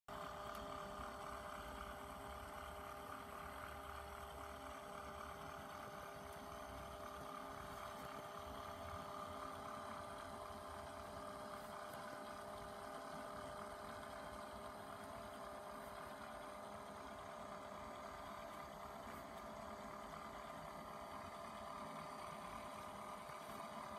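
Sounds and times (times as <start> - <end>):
small electric motor humming: 0.1 - 23.9.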